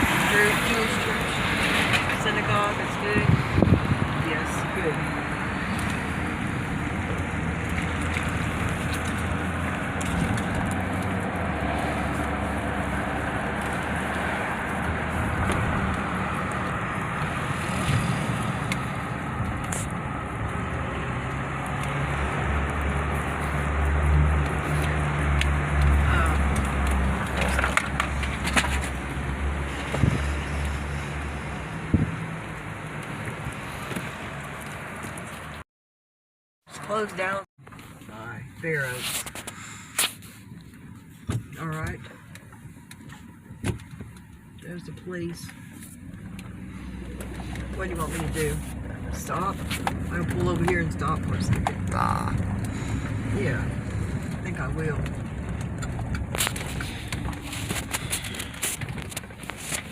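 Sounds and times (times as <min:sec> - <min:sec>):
engine and tyre rumble: 0:00.0 - 0:35.6, 0:36.6 - 0:59.9.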